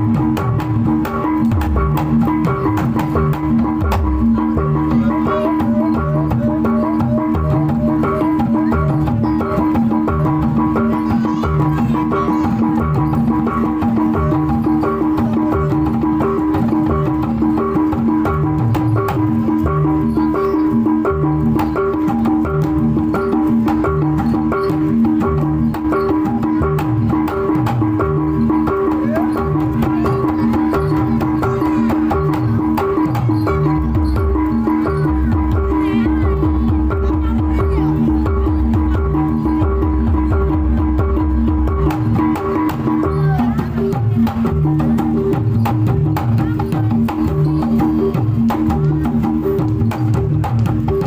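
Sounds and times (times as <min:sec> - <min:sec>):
hand drum strokes: 0:00.0 - 0:51.0
sharp clicking percussion: 0:00.0 - 0:51.0
struck metal tones melody: 0:00.0 - 0:51.0.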